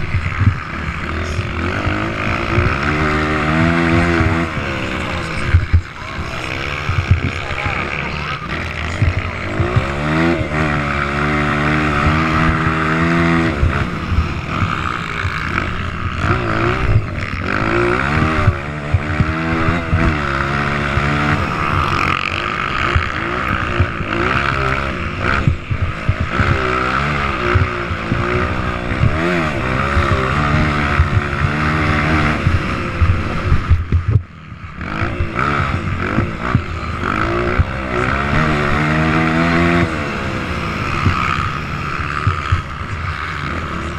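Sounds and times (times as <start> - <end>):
motorcycles revving hard: 0.0 - 43.9.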